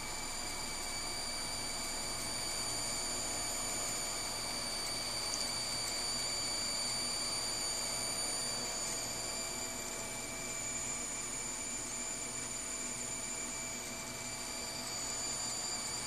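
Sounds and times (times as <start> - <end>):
power supply electrical whine: 0.0 - 16.0.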